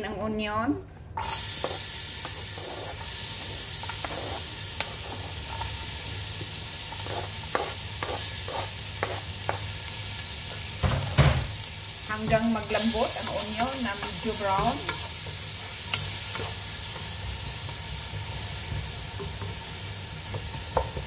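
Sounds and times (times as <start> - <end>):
onion sizzling in hot oil: 1.2 - 21.0.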